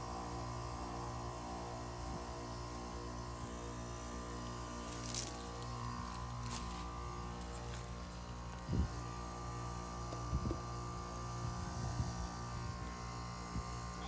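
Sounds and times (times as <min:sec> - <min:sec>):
heat pump humming: 0:00.0 - 0:14.0.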